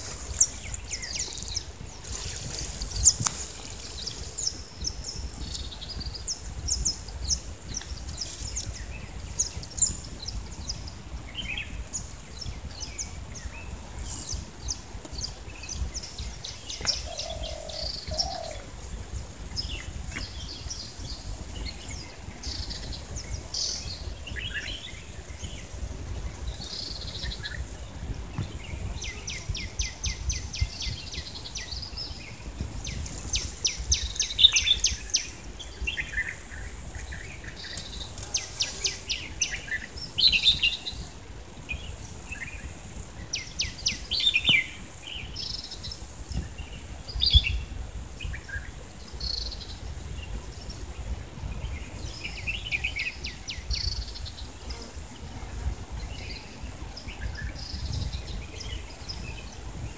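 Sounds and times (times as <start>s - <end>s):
small birds chirping: 0.0s - 55.4s.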